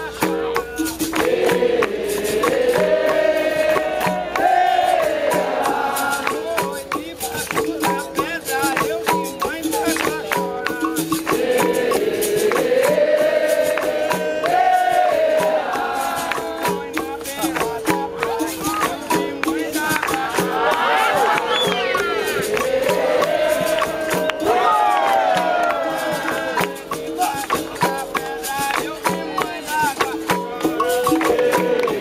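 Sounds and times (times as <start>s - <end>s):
group singing together: 0.0s - 32.0s
hand drum rhythm: 0.0s - 32.0s
pandeiro: 0.0s - 32.0s
people clapping in time: 0.0s - 32.0s.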